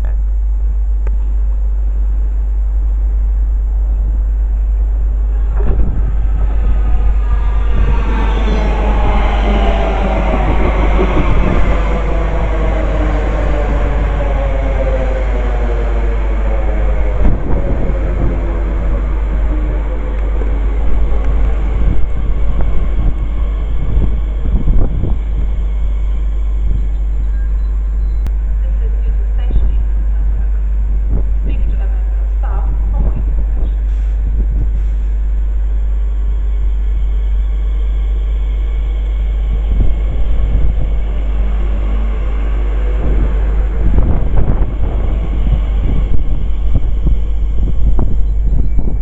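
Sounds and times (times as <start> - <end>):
wind rumbling on microphone: 0.0 - 49.0
train running on rails: 2.8 - 49.0.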